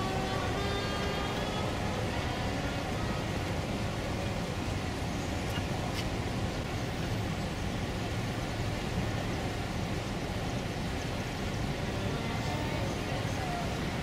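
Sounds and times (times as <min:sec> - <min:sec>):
ship engine low rumble: 0:00.0 - 0:14.0.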